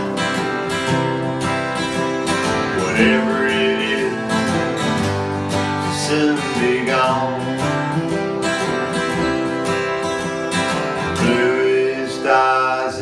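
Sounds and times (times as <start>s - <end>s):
acoustic guitars strumming country song: 0.0s - 13.0s.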